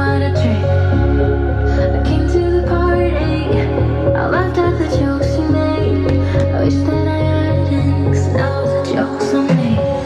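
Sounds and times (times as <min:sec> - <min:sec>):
instrumental music with pulsing bass: 0:00.0 - 0:10.0.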